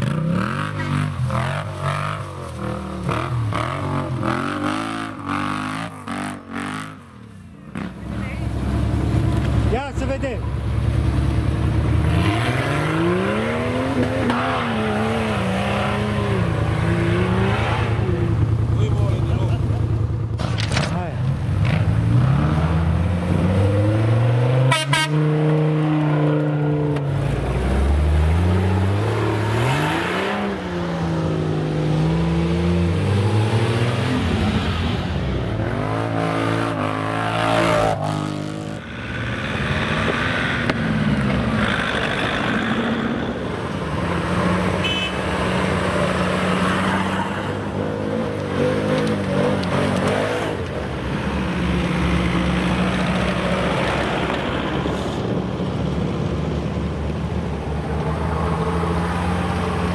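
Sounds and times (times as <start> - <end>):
off-road engines revving: 0.0 - 59.9
quad bike passing: 0.0 - 59.9.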